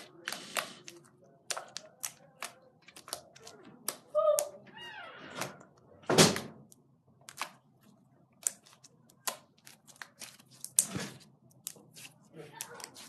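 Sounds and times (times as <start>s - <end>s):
slime squelching: 0.0s - 5.9s, 6.6s - 13.0s.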